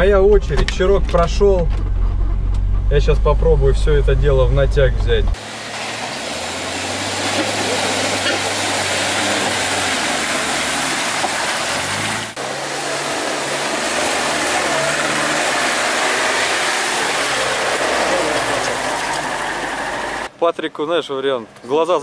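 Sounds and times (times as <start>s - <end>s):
vehicle engine under throttle: 1.0s - 20.3s.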